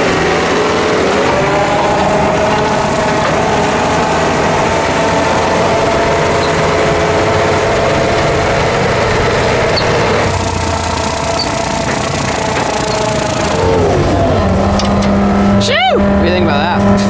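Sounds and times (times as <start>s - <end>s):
brush cutter mowing grass: 0.0s - 17.0s
diesel engine running: 0.0s - 17.0s
steady whine: 0.0s - 17.0s.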